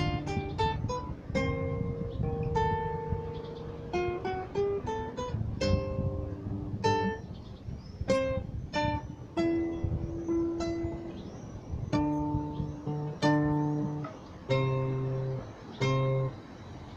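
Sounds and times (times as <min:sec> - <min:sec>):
classical guitar fingerstyle: 0:00.0 - 0:16.8.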